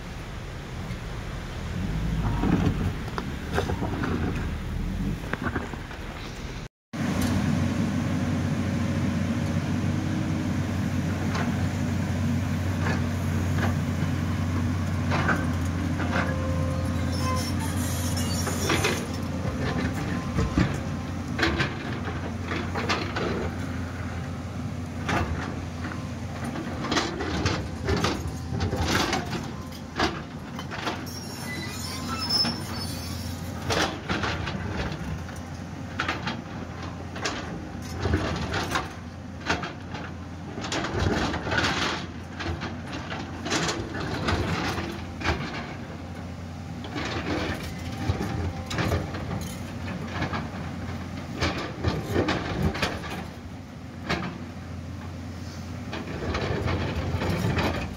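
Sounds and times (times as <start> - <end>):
excavator diesel engine hum: 0.0 - 57.9.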